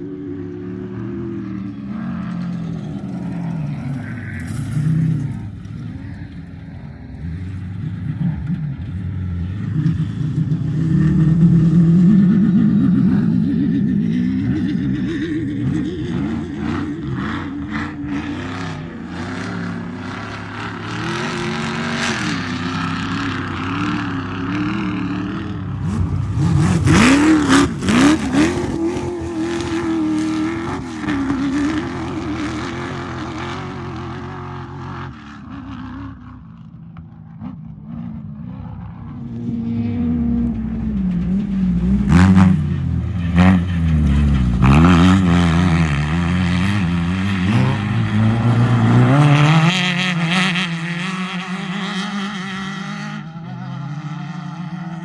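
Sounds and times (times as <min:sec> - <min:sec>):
off-road vehicle engines revving: 0:00.0 - 0:55.0
rush of passing vehicles: 0:00.0 - 0:55.0.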